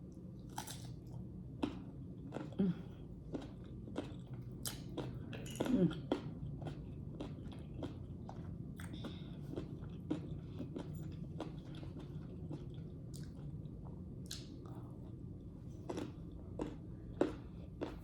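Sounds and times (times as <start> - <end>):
person chewing fruit: 0.5 - 15.2, 15.8 - 18.0.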